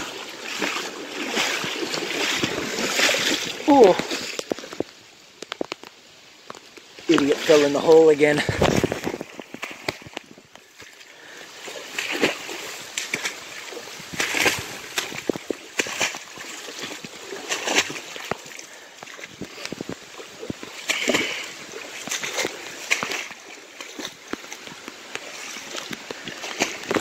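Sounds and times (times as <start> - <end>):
footsteps splashing through water: 0.0 - 27.0.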